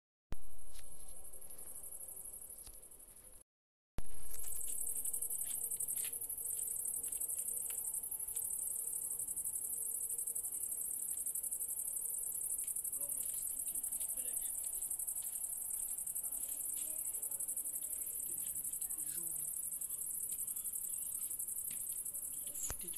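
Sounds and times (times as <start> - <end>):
crickets chirping: 0.4 - 3.4, 4.0 - 22.9.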